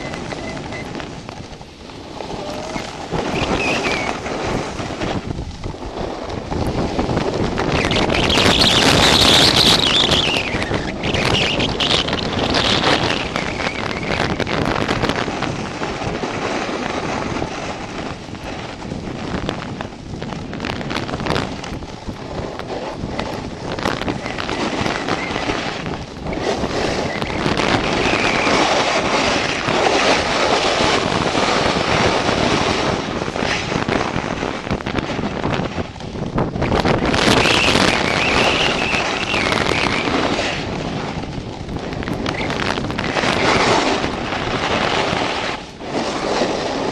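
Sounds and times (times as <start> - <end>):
snowboard scraping over snow: 0.0 - 46.9
wind rushing on microphone: 0.0 - 46.9.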